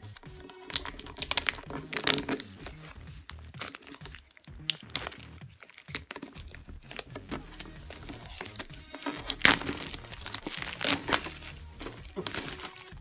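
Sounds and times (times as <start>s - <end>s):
plastic wrap tearing and crinkling: 0.0s - 13.0s.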